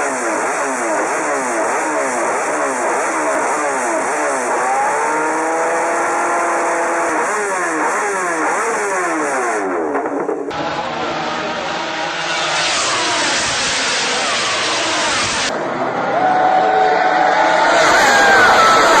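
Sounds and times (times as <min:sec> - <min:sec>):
motorcycle engine revving through gears: 0:00.0 - 0:15.6.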